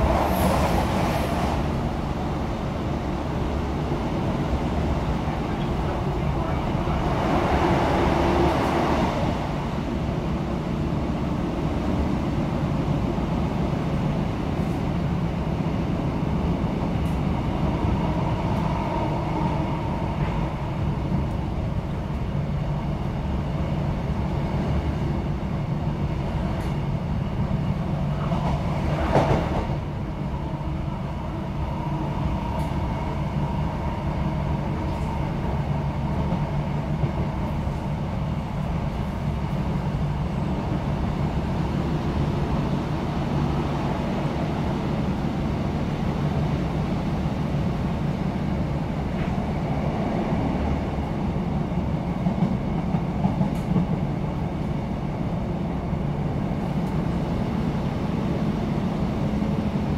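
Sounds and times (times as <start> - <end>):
train diesel engine: 0.0 - 59.9.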